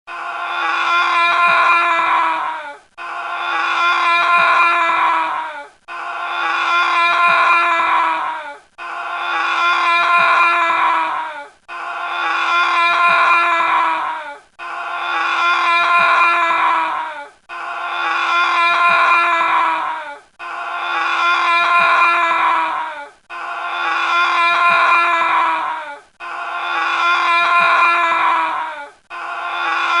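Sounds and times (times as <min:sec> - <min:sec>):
anguished wailing cry: 0:00.1 - 0:30.0.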